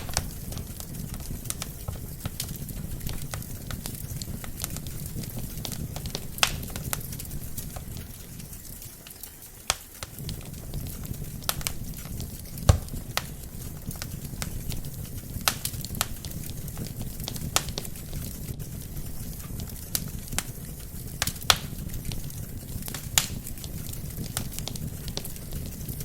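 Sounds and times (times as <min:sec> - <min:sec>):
fire rumbling: 0:00.0 - 0:26.0
logs crackling and popping: 0:00.0 - 0:26.0.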